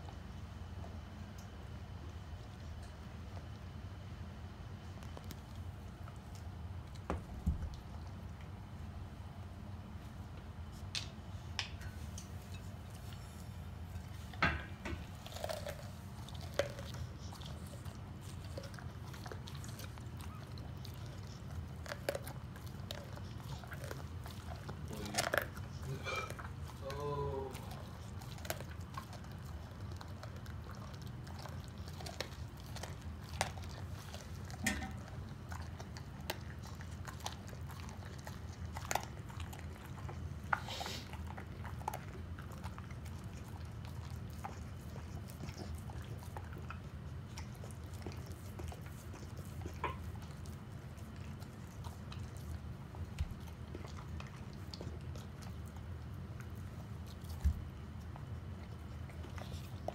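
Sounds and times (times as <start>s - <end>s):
dog chewing raw chicken: 0.0s - 59.9s.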